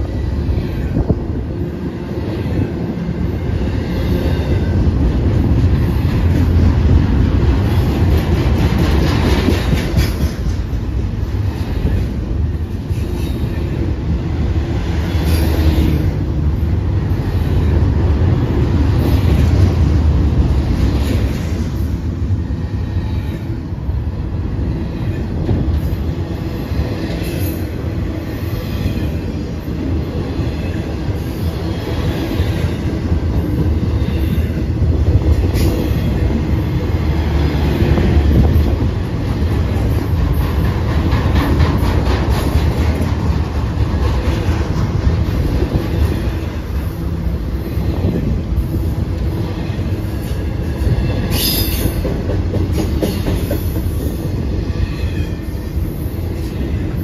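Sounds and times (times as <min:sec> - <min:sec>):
train cars clicking and rattling: 0:00.0 - 0:57.0
train wheels rumbling on rail: 0:00.0 - 0:57.0.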